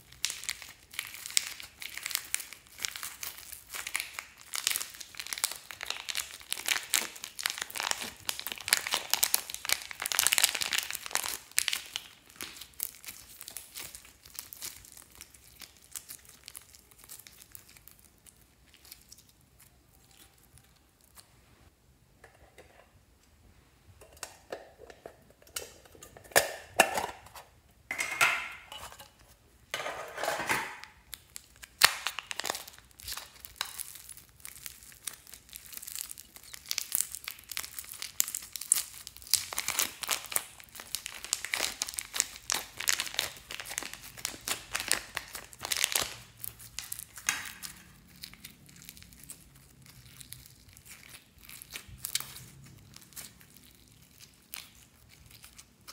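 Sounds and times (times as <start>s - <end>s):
slime crackling: 0.0s - 21.4s, 30.8s - 55.9s.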